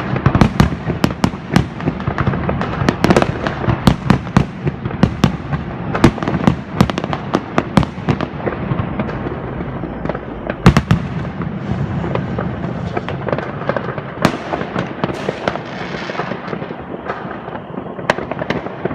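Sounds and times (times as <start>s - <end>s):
distant fireworks rumble: 0.0s - 18.9s
fireworks crackling: 0.0s - 18.9s
loud close firework bangs: 0.0s - 18.9s.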